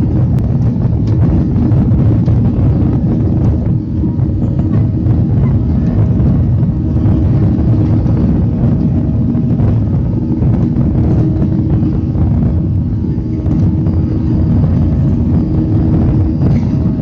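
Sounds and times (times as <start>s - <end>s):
airplane engines roaring: 0.0s - 17.0s.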